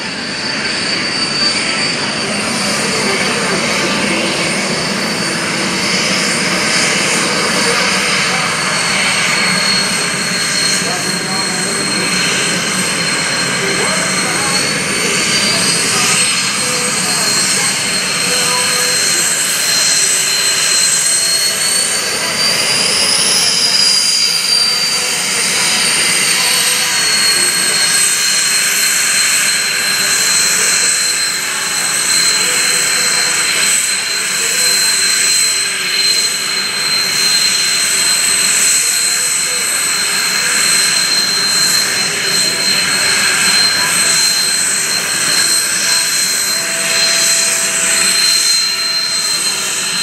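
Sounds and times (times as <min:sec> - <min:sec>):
jet turbine engine whine: 0:00.0 - 0:50.0.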